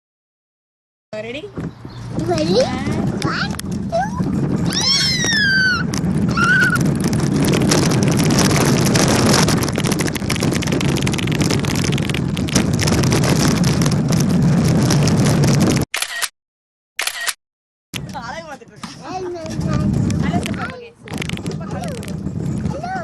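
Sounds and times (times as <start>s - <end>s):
plastic toy wheels rolling on pavement: 2.1s - 15.9s, 18.0s - 23.0s.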